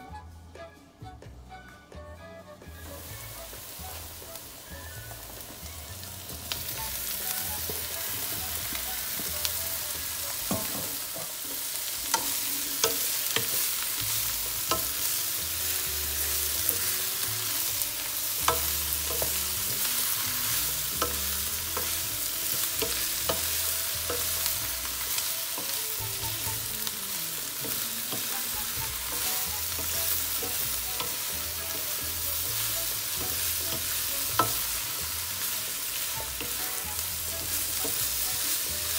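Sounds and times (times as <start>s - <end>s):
meat sizzling in a wok: 2.6s - 38.9s.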